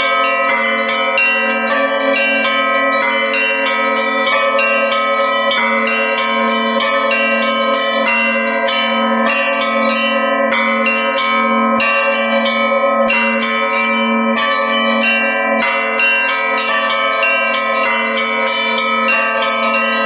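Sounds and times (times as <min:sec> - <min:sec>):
church bells pealing: 0:00.0 - 0:20.0
low bell ringing: 0:00.0 - 0:20.0.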